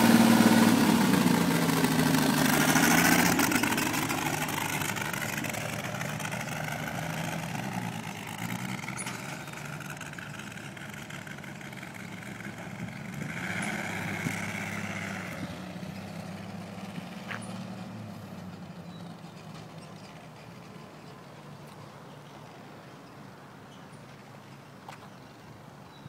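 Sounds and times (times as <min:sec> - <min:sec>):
pickup truck engine driving away: 0:00.0 - 0:21.4.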